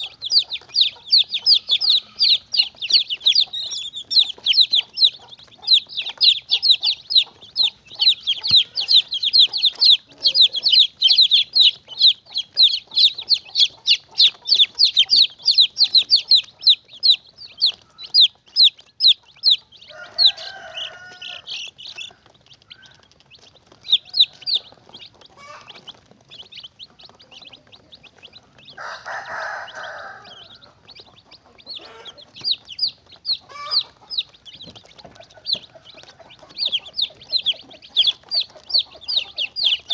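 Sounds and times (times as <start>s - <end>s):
chicken calling: 0.0s - 39.9s
chicks peeping: 0.0s - 39.9s.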